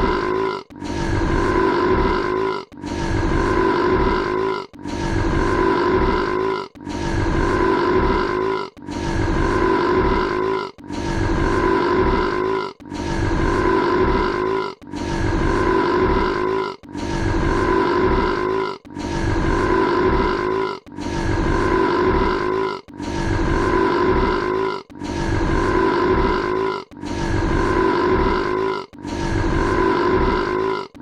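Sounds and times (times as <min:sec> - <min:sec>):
long rough belch: 0:00.0 - 0:31.0.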